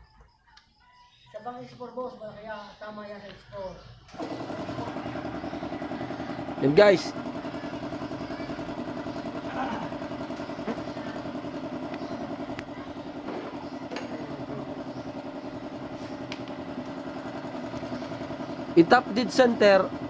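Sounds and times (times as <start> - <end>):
motorcycle engine idling: 2.3 - 20.0.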